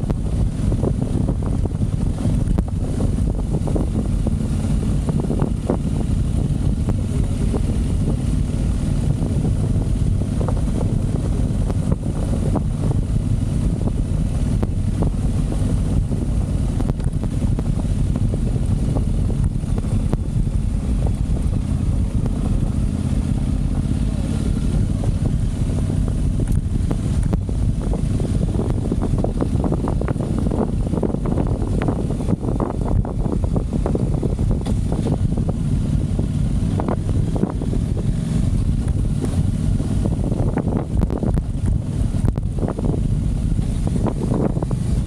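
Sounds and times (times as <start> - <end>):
motorcycle engine running: 0.0 - 45.0
wind noise on microphone: 0.0 - 45.0.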